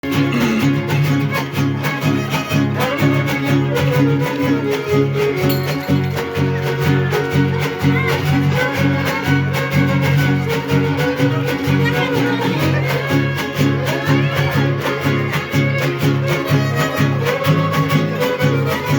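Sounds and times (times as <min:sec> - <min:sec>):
strummed guitar chords: 0:00.0 - 0:18.9
violin melody: 0:00.4 - 0:18.9.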